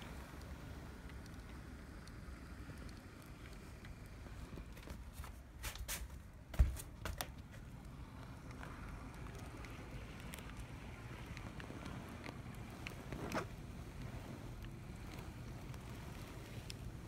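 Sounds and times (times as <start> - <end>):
model train rolling and motor: 0.0 - 5.0, 7.6 - 17.0.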